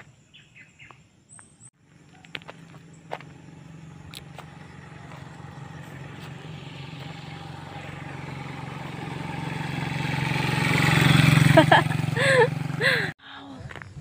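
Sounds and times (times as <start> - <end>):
small motorcycle engine running: 1.8 - 13.2.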